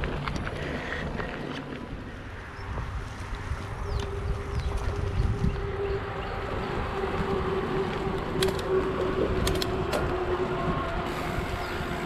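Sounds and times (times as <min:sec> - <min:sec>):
bike tyres rumbling on dirt: 0:00.0 - 0:12.0.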